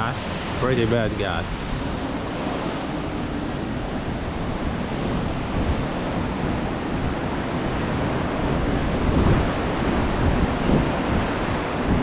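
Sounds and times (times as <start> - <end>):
strong wind roaring: 0.0 - 12.0
wind buffeting microphone: 0.0 - 12.0.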